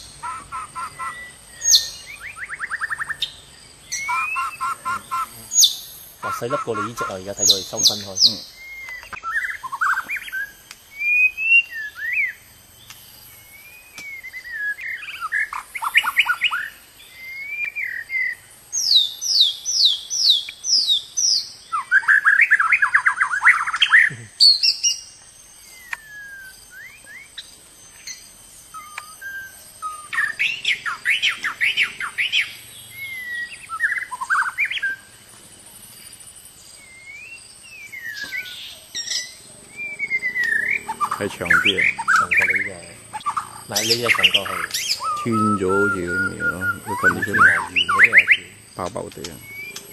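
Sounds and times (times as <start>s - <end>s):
bird singing whistles and trills: 0.0s - 49.9s.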